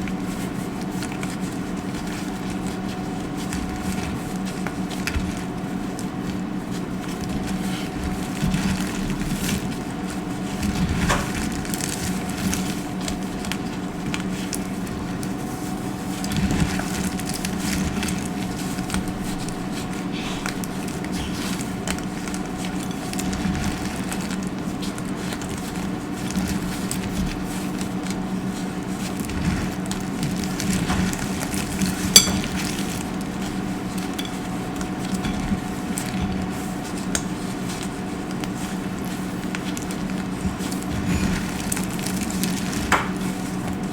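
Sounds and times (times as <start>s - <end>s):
dry soap crunching and crumbling: 0.0s - 43.9s.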